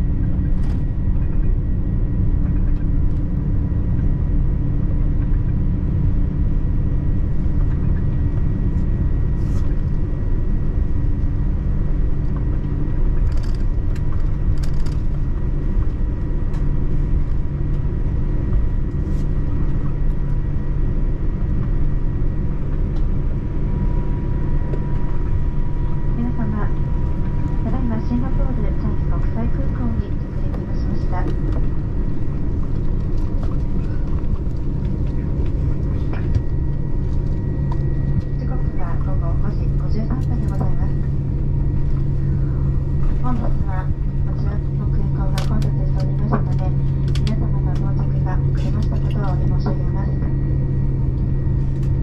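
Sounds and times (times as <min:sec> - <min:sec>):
vehicle rumbling in motion: 0:00.0 - 0:52.0.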